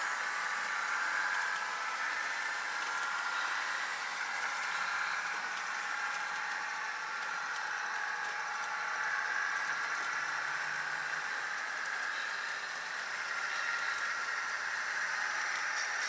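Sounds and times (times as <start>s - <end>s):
model train diesel engine hum: 0.0s - 16.0s.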